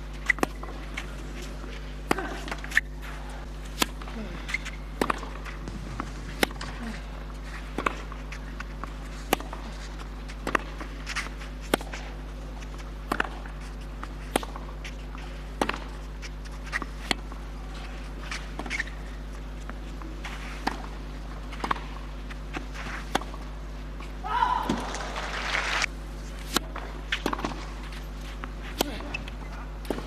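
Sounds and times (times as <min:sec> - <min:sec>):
low hum: 0:00.0 - 0:30.0
rackets hitting tennis ball: 0:00.1 - 0:25.2, 0:26.2 - 0:30.0.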